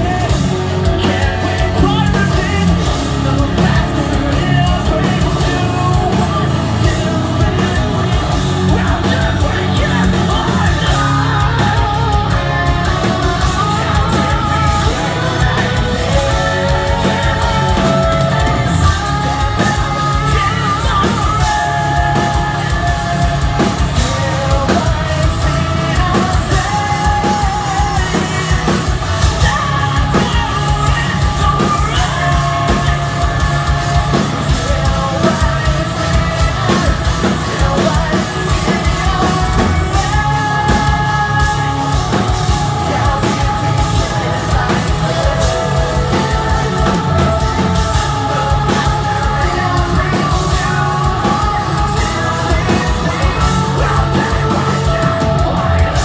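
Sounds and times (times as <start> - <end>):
heavy distorted guitars: 0.0 - 56.0
metal band playing live: 0.0 - 56.0
person singing and shouting: 0.0 - 56.0
rapid dense drumming: 0.0 - 56.0.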